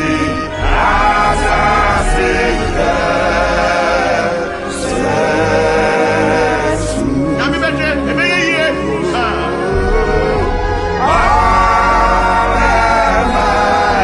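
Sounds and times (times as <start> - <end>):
gospel choir singing: 0.0 - 14.0
instrumental backing music: 0.0 - 14.0.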